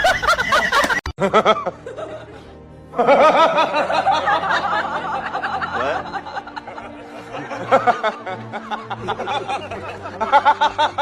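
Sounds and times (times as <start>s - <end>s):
background music: 0.0s - 11.0s
laughter bursts: 0.0s - 11.0s.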